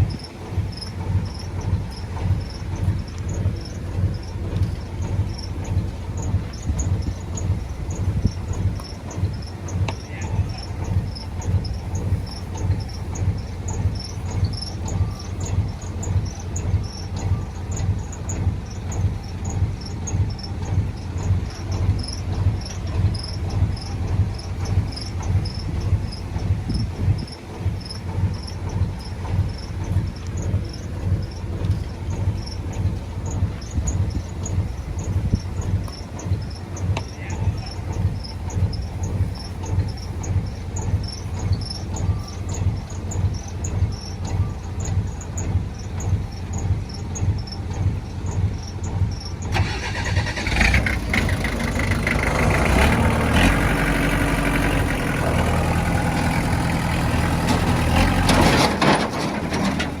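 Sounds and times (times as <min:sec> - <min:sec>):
bulldozer diesel engine rumbling: 0:00.0 - 1:00.0
insects chirping: 0:00.0 - 1:00.0.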